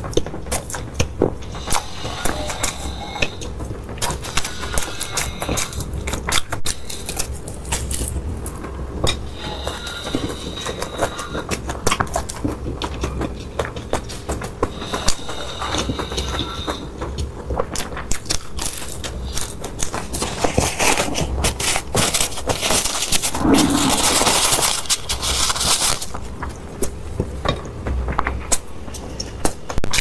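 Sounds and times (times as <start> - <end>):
wet chewing and crunching: 0.0 - 30.0.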